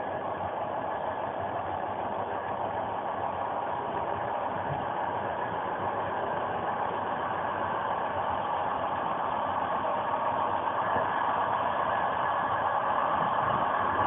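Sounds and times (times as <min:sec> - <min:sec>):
passenger train running: 0:00.0 - 0:14.0.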